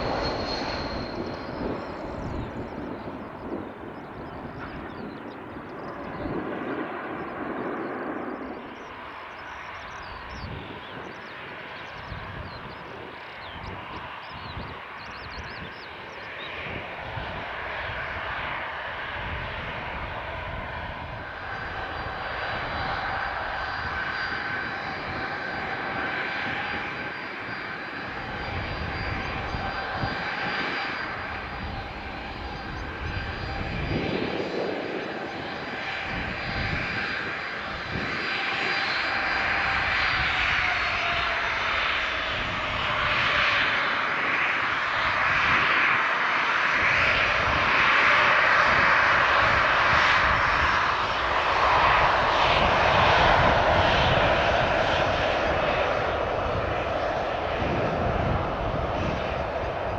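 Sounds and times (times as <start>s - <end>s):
jet engines roaring and whining: 0.0s - 59.9s.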